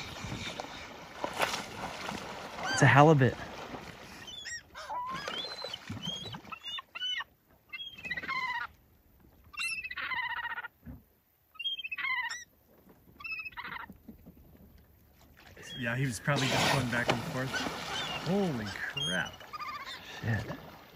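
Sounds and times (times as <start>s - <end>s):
gulls calling: 0.0s - 8.8s, 9.5s - 10.8s, 11.5s - 14.0s, 15.4s - 20.9s.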